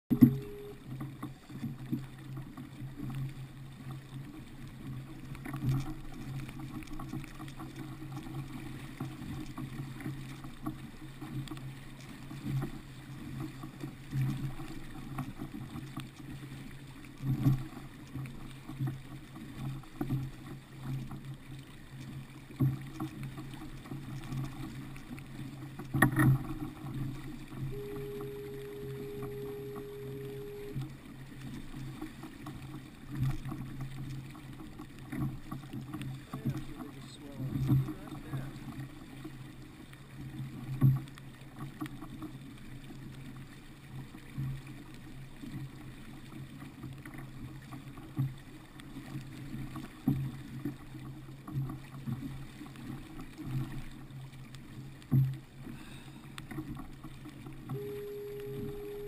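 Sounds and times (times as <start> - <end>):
water splashing against kayak hull: 0.1 - 59.0.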